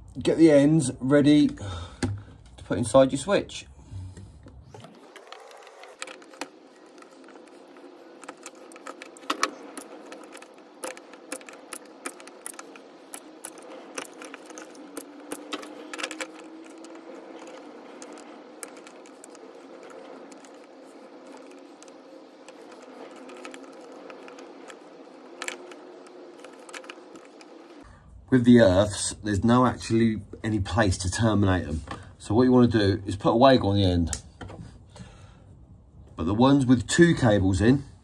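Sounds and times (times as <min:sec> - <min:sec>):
steady low hum: 0:00.9 - 0:33.2.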